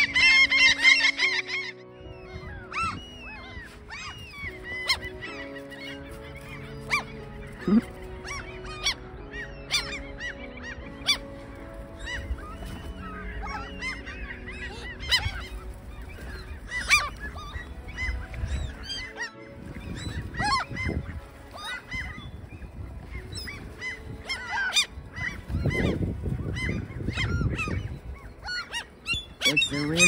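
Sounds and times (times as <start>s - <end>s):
gulls calling: 0.0s - 30.0s.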